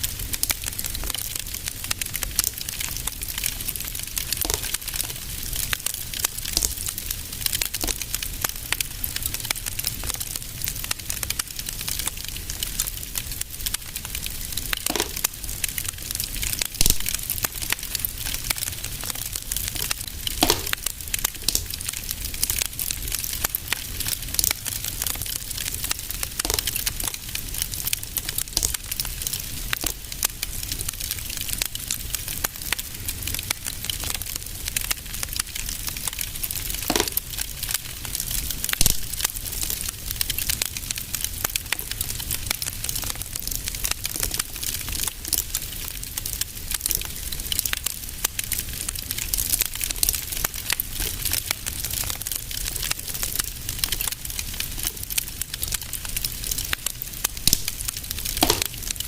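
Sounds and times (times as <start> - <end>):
fire pops: 0.0 - 47.7, 48.3 - 59.0
fireplace fire crackling: 0.0 - 59.0.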